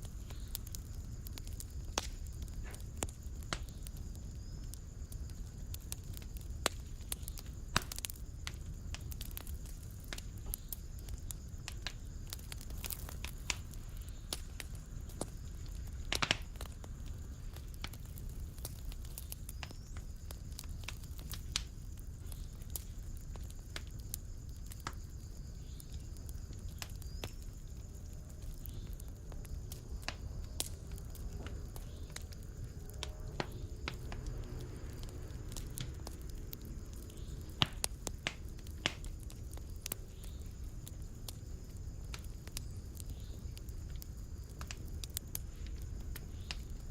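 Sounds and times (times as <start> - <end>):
fire crackling and popping: 0.0 - 46.9
low rumble of flames: 0.0 - 46.9.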